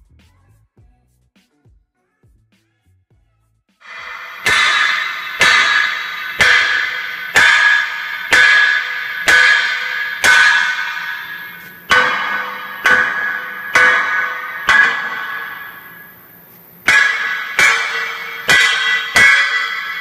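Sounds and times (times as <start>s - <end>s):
hammer striking steel frame: 3.8s - 20.0s
metal ringing: 3.8s - 20.0s.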